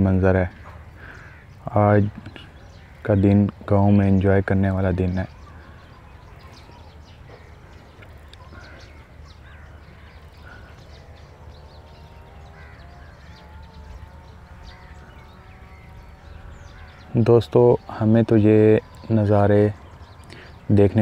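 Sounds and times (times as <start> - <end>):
birds chirping and calling: 0.0 - 21.0
long drawn-out bird call: 0.0 - 21.0.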